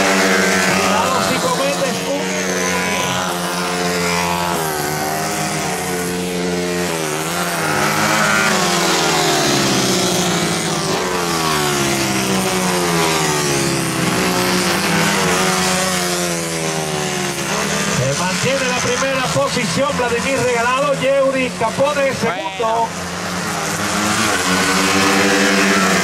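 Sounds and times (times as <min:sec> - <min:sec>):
racing motorcycle engines revving: 0:00.0 - 0:26.0.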